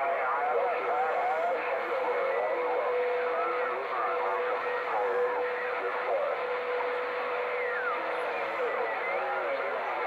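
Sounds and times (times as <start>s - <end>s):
garbled radio voices: 0.0s - 10.0s
radio static: 0.0s - 10.0s.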